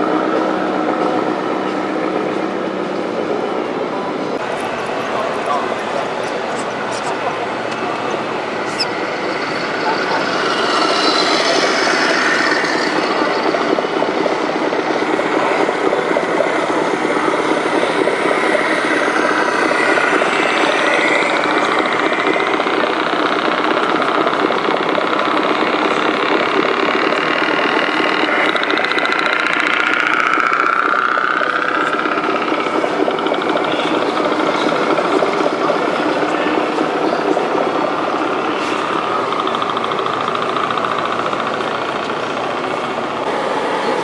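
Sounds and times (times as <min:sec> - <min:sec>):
model truck engines running: 0:00.0 - 0:44.0
rising and falling motor whines: 0:04.4 - 0:35.8, 0:36.8 - 0:44.0.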